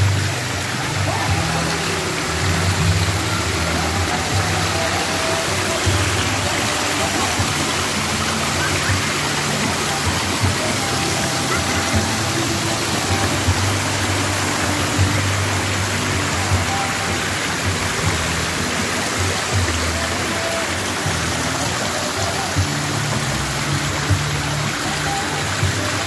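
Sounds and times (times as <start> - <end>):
background music: 0.0 - 26.0
waterfall pouring into pool: 0.0 - 26.0.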